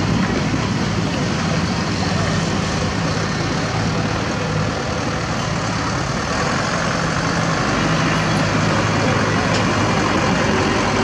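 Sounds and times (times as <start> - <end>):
diesel truck engines droning: 0.0 - 11.0.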